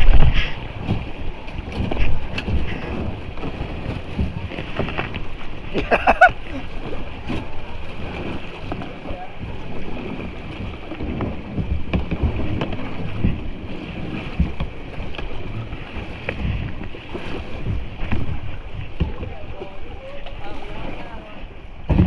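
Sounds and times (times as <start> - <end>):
boat and paddle knocks: 0.0 - 22.0
rushing creek water: 0.0 - 22.0
wind buffeting microphone: 0.0 - 22.0.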